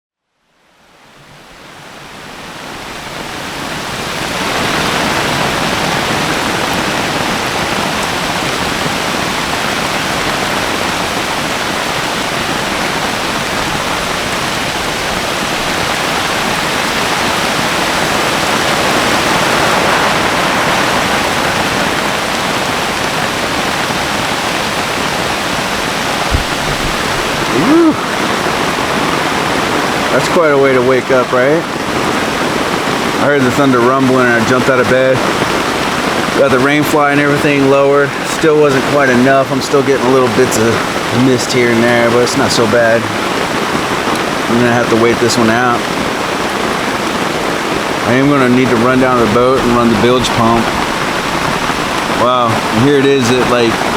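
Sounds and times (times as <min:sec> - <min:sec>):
heavy rain pouring: 0:00.6 - 0:53.9.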